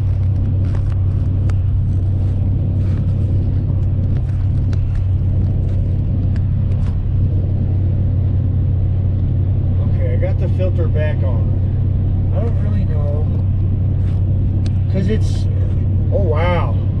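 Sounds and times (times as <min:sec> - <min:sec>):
car cabin road drone: 0:00.0 - 0:17.0.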